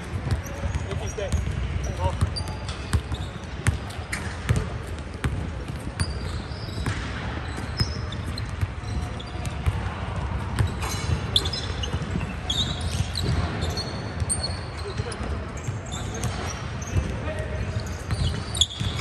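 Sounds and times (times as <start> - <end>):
sneakers squeaking: 0.0 - 19.0
basketballs bouncing on wood floor: 0.1 - 14.4, 16.1 - 19.0.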